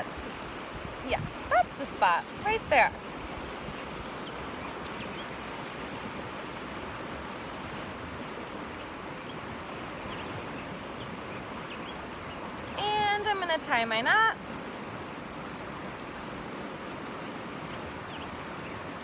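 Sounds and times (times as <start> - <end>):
river flowing: 0.0 - 19.0.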